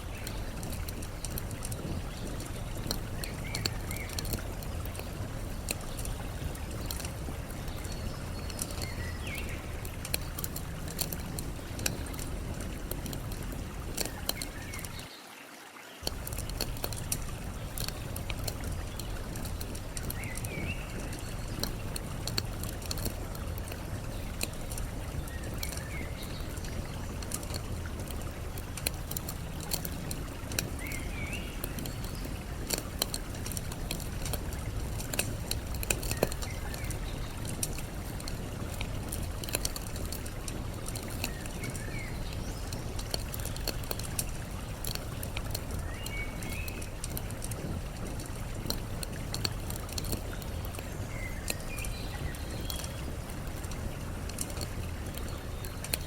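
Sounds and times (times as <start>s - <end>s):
campfire crackling and popping: 0.0s - 15.1s, 16.0s - 56.0s
flowing water rushing: 0.0s - 56.0s.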